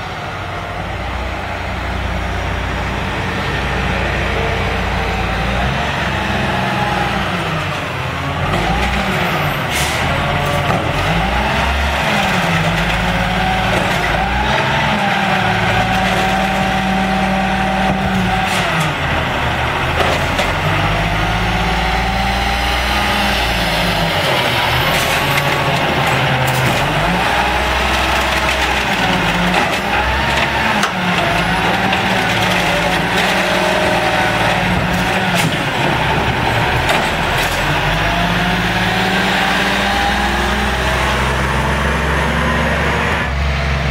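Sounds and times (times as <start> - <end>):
garbage truck diesel engine revving: 0.0 - 43.9.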